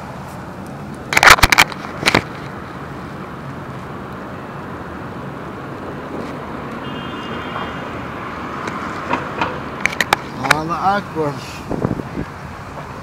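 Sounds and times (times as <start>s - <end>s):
outdoor background rush: 0.0s - 13.0s.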